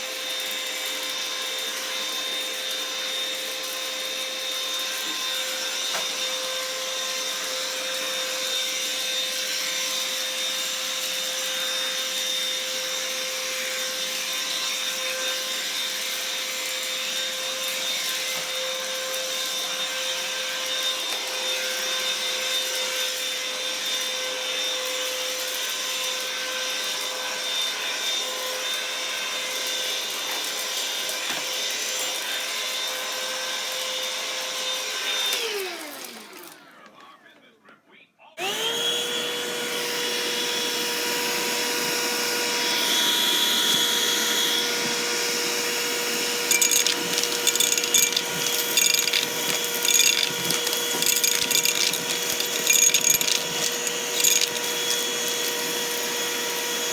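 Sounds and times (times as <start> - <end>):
vacuum cleaner running: 0.0 - 37.0, 38.4 - 56.9.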